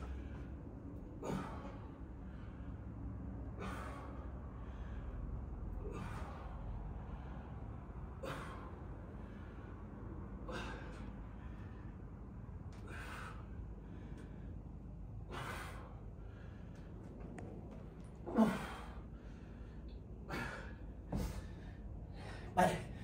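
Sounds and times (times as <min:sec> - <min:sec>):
woman breathing forcefully: 0:00.0 - 0:23.0.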